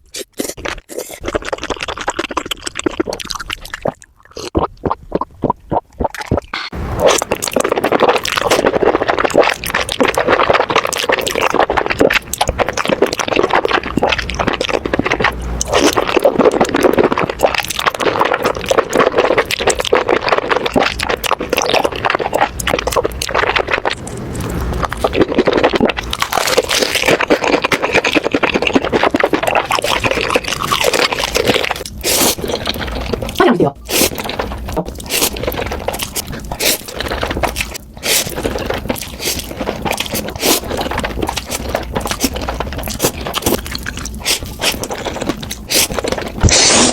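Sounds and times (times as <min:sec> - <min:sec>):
wet chewing and slurping: 0:00.0 - 0:46.9.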